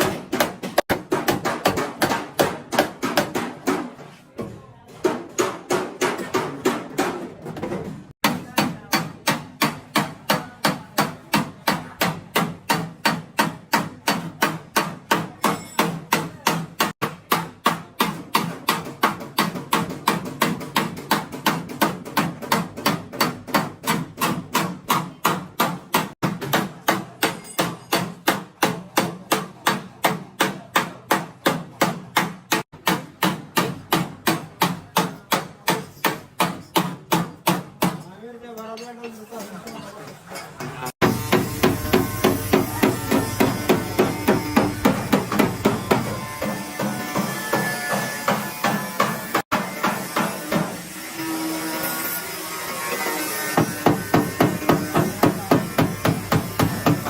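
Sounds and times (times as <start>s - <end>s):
hammer striking sheet metal: 5.0s - 7.6s, 8.2s - 38.0s, 40.9s - 51.0s, 53.3s - 57.0s.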